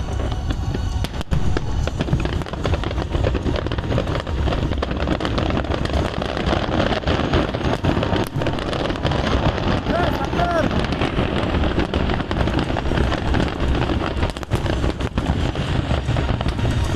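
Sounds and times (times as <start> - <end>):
deep rumble: 0.0 - 16.9
fireworks bangs and crackles: 0.0 - 16.9.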